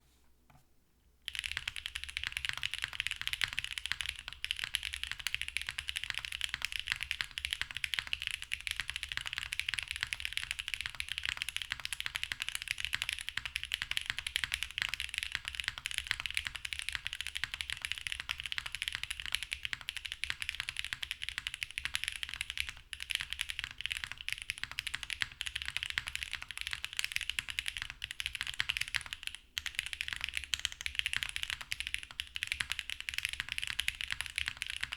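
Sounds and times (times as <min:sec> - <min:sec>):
fast mechanical keyboard typing: 0:01.3 - 0:34.9.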